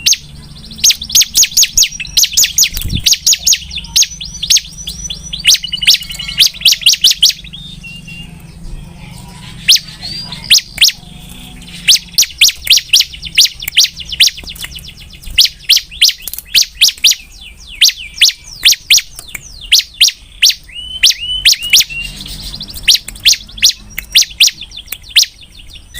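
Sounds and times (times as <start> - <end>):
bird singing fast sharp chirps: 0.0 - 25.9.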